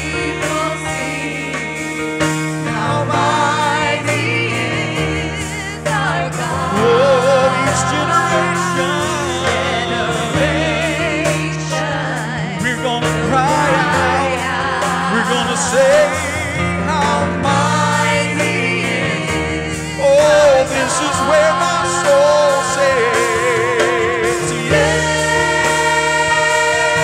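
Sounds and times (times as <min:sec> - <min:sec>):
band accompaniment: 0:00.0 - 0:27.0
group singing gospel song: 0:00.0 - 0:27.0.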